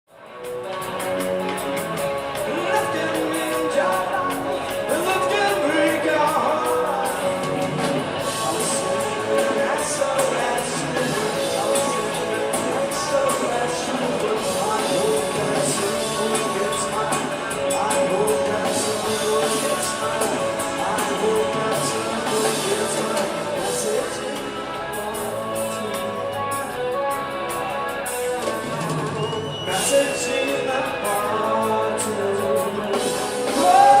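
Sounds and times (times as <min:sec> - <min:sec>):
electric guitar: 0:00.1 - 0:34.0
rock band playing: 0:00.1 - 0:34.0
drums with cymbal hits: 0:00.2 - 0:34.0
person singing: 0:01.0 - 0:34.0.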